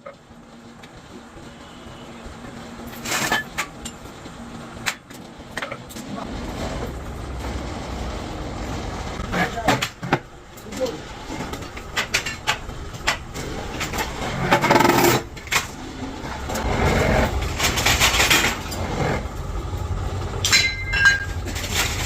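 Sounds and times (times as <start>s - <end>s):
machine running: 0.0s - 22.0s.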